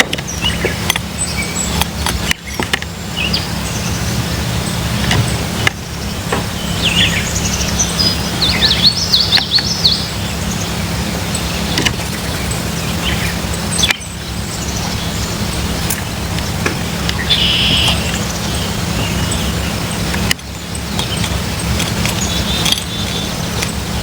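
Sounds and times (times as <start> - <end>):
low background rumble: 0.0 - 24.0
songbirds chirping: 0.0 - 24.0.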